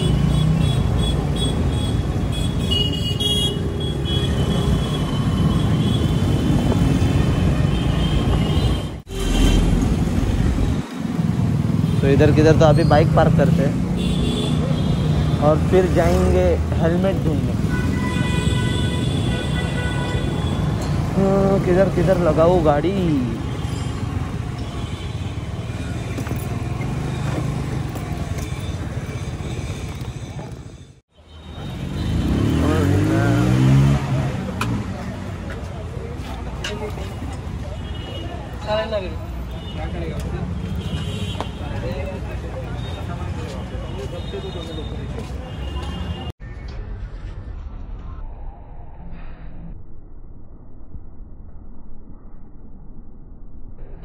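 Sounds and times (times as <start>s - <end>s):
surrounding traffic: 0.0s - 54.0s.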